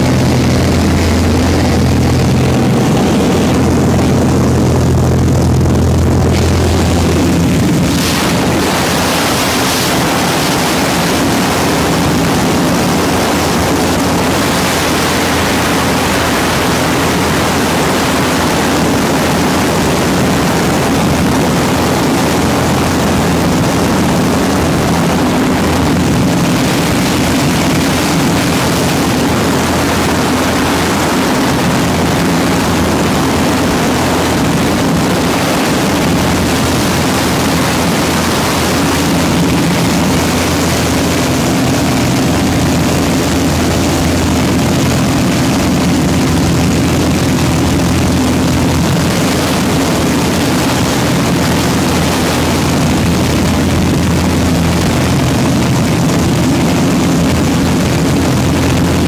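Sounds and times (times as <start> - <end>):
propeller aircraft engine droning: 0.0 - 59.0
rushing air noise: 0.0 - 59.0.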